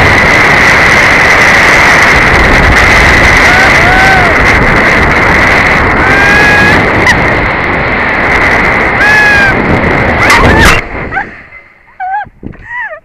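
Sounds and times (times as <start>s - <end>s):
loud wind rushing: 0.0s - 12.8s
high whine of pulleys: 0.0s - 13.0s
zipline trolley running on cable: 0.0s - 13.0s.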